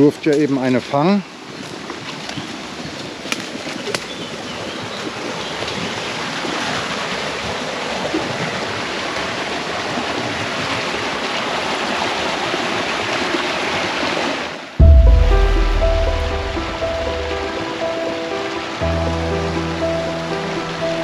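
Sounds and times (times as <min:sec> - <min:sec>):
stream rushing over rocks: 0:00.5 - 0:21.0.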